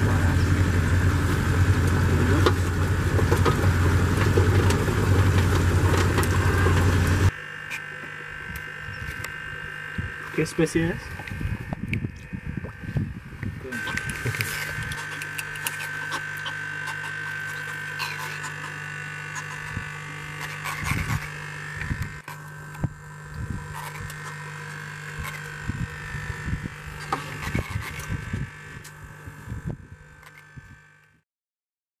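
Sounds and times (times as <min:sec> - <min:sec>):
steady hum: 0:00.0 - 0:31.2
catfish grating croaks: 0:02.7 - 0:29.2.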